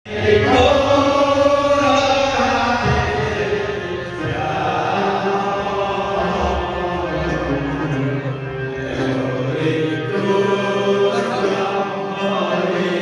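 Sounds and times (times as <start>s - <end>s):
group chanting devotional song: 0.1s - 13.0s
musical accompaniment: 0.1s - 13.0s.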